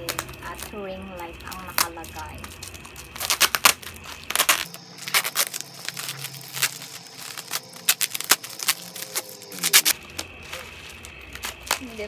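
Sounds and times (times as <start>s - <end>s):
bubble wrap crackling: 0.0s - 12.0s
packing tape pulled: 1.4s - 12.0s.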